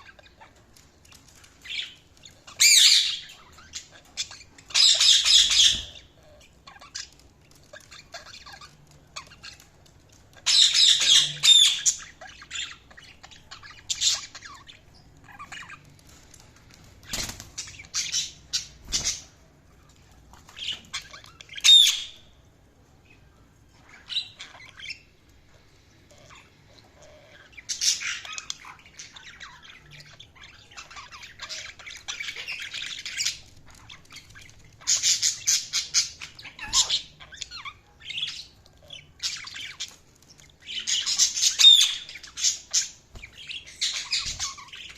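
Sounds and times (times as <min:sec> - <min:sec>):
budgerigars chattering and squawking: 0:00.0 - 0:16.4, 0:17.0 - 0:22.4, 0:23.7 - 0:25.2, 0:26.0 - 0:44.9.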